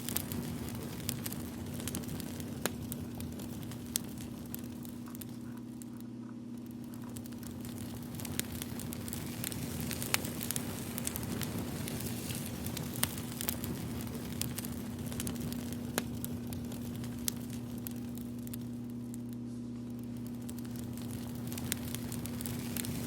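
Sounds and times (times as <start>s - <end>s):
steady low hum: 0.0s - 23.0s
wood fire crackling and popping: 0.0s - 23.0s.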